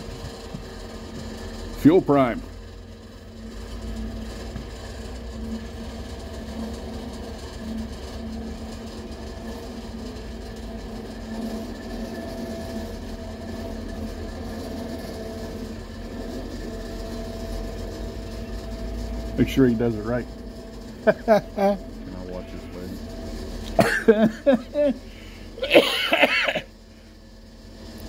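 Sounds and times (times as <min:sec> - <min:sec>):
fuel pump humming with low whine: 0:00.0 - 0:28.0.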